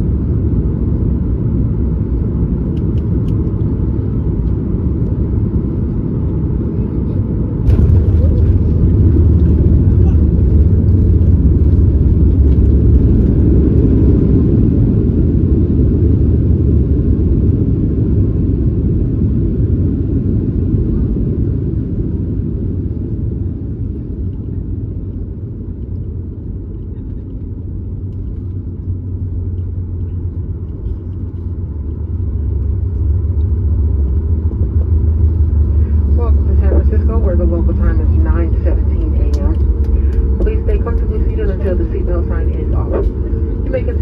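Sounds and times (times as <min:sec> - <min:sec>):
airplane cabin rumble: 0:00.0 - 0:44.0.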